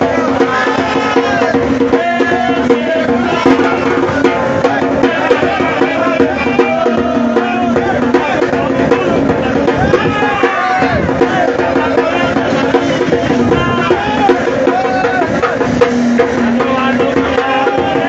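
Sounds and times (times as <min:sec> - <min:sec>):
upbeat song with drum beat: 0:00.0 - 0:18.0.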